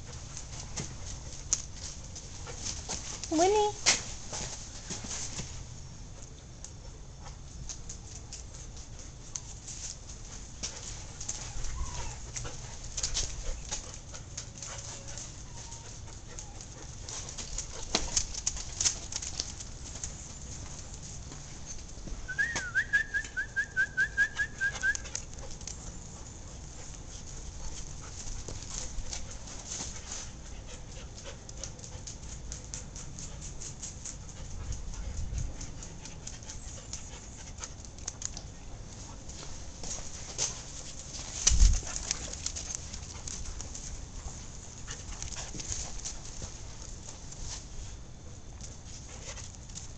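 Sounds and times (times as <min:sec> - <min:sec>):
dog paws clicking on concrete: 0:00.0 - 0:49.9.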